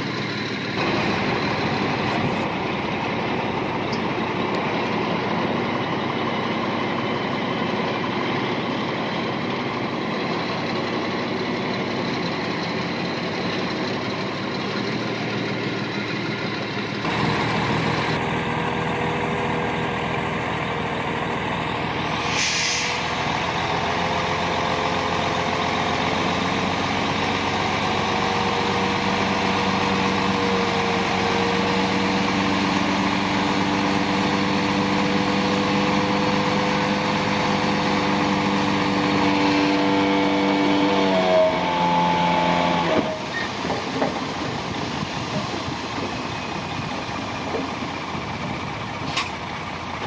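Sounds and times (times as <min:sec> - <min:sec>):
heavy diesel engine under load: 0:00.0 - 0:50.0.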